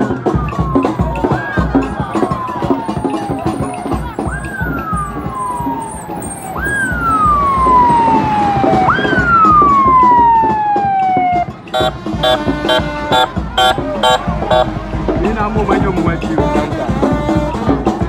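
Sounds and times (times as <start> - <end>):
ambulance siren wailing: 0.0 - 14.8.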